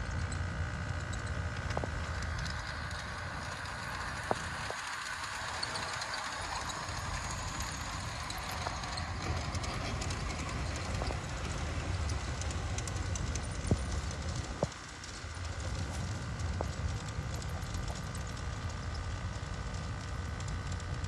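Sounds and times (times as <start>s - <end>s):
wheels clicking over rail joints: 0.1s - 21.0s
model train rumbling on track: 0.6s - 21.0s.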